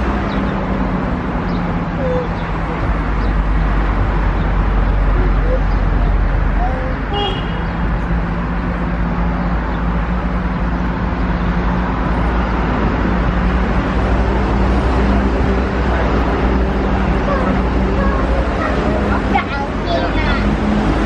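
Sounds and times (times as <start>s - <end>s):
bus engine hum: 0.0s - 21.0s
road and traffic noise: 0.0s - 21.0s.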